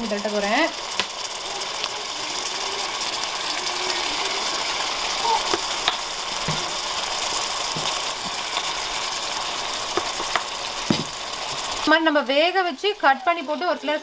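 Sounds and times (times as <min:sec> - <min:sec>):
food sizzling in a pan: 0:00.0 - 0:14.0
pepper mill grinding: 0:00.0 - 0:14.0.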